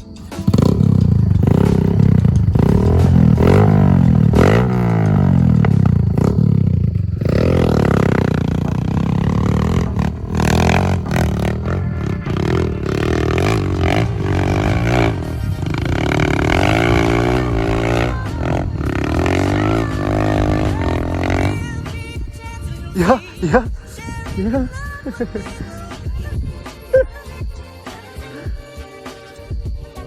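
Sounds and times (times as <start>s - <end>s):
motorbike engine revving: 0.0s - 27.1s.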